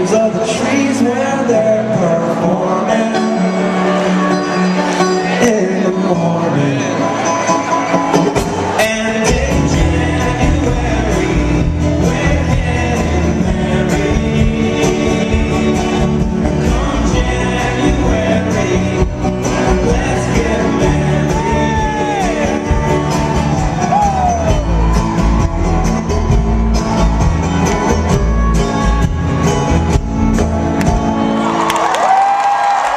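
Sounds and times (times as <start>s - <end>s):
live folk-rock band playing and singing: 0.0s - 32.9s.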